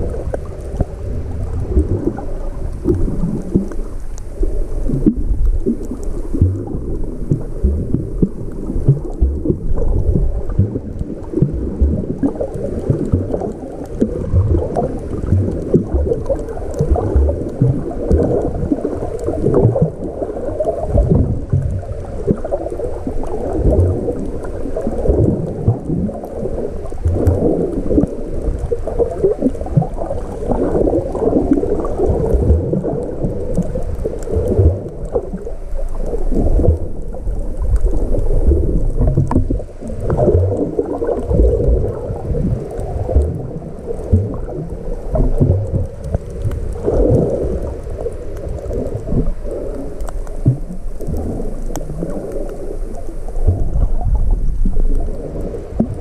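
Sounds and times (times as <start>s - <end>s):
muffled water sloshing and gurgling: 0.0s - 56.0s.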